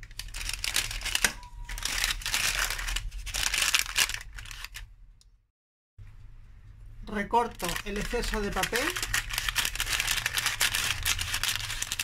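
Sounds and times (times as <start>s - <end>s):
baking paper crinkling: 0.0s - 4.9s, 7.1s - 12.0s.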